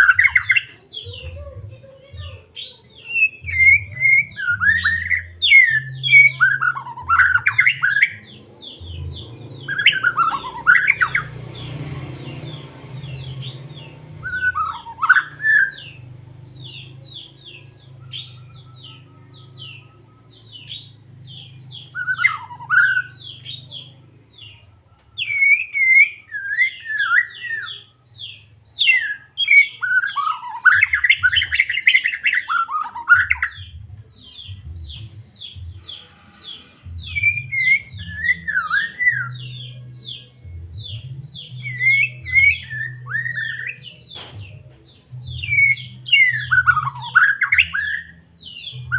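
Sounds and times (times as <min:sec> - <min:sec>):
songbird chirping and warbling: 0:00.0 - 0:48.9.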